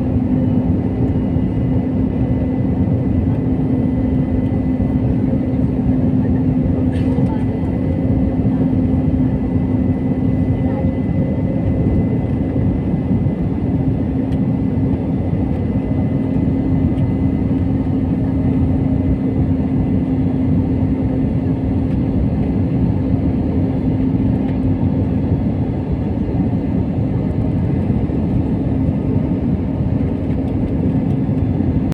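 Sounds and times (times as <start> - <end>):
constant low hum: 0.0 - 31.9
jet airliner cabin drone: 0.0 - 31.9.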